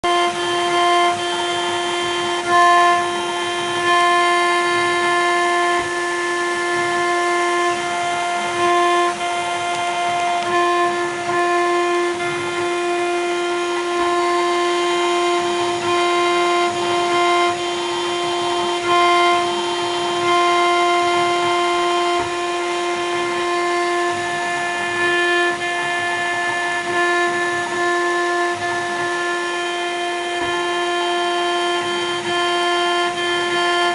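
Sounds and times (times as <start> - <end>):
router spindle whining: 0.0 - 33.9.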